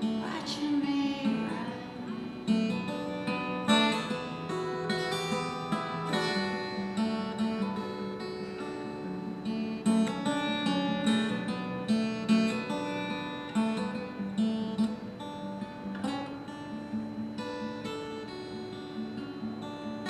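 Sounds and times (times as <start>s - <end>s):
acoustic guitar picking and strumming: 0.0s - 20.0s.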